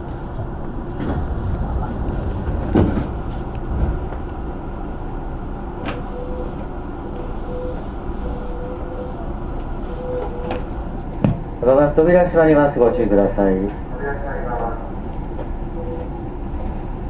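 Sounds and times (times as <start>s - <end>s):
low rumble inside train car: 0.0s - 17.0s.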